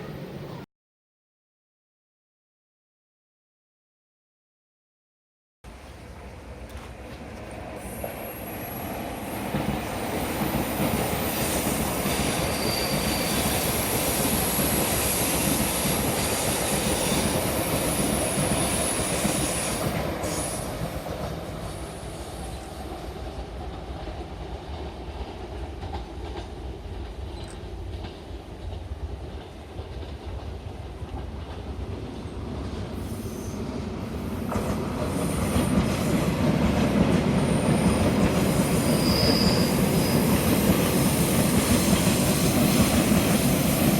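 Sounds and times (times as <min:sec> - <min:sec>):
second train approaching: 0:00.0 - 0:00.7, 0:05.7 - 0:43.9
train wheels clattering on rails: 0:06.6 - 0:33.0, 0:34.2 - 0:43.9.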